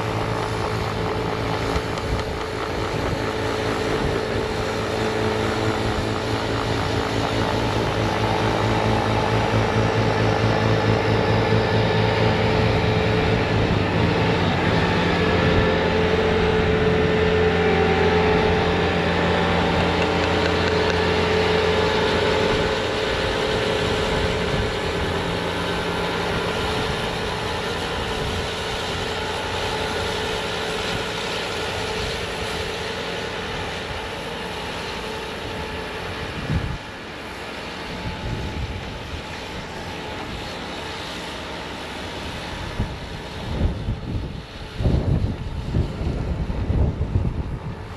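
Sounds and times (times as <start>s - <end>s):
diesel engine running under load: 0.0s - 47.9s
snowblower spinning: 0.0s - 47.9s.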